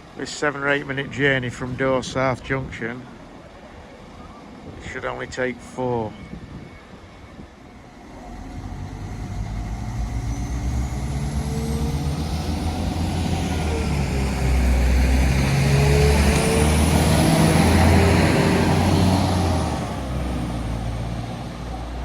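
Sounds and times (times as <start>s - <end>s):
diesel train approaching: 0.0s - 22.0s.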